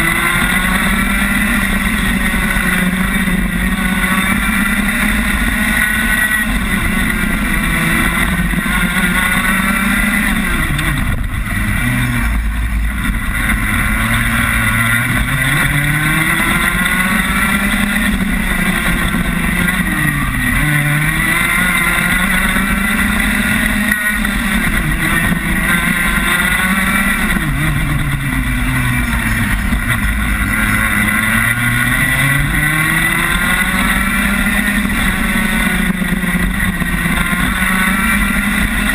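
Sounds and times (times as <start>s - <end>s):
kart engine at racing speed: 0.0s - 38.9s.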